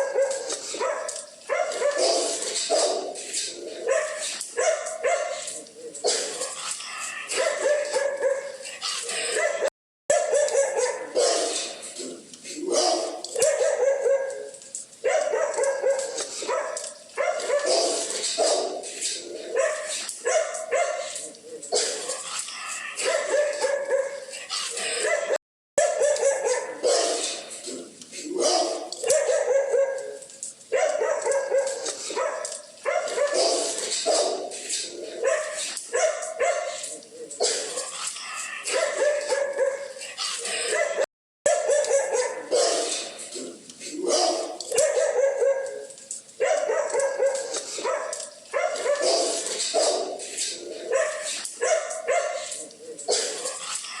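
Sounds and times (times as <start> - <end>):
dogs barking angrily: 0.0 - 12.0, 12.6 - 22.4, 23.0 - 27.7, 28.3 - 53.8.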